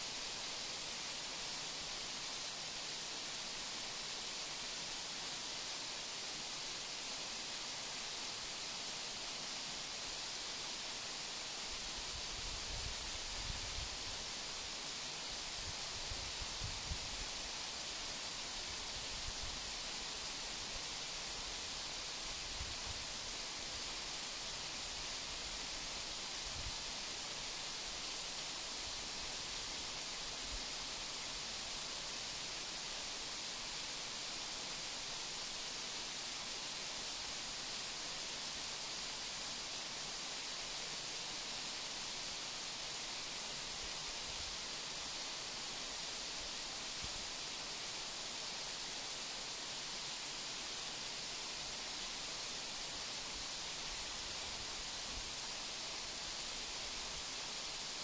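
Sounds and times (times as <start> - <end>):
waterfall hissing: 0.0 - 58.0.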